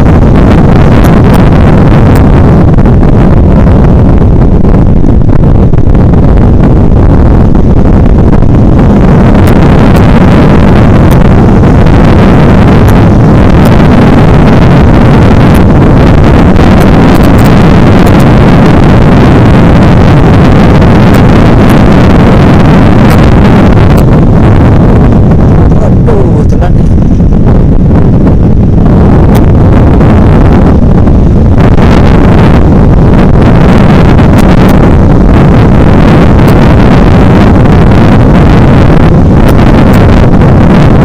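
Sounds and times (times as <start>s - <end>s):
wind buffeting on microphone: 0.0s - 41.0s.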